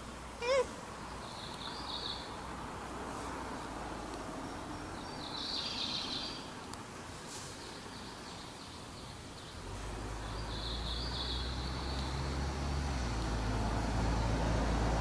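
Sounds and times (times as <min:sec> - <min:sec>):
vehicle engine rumble: 0:00.0 - 0:08.1, 0:08.8 - 0:15.0.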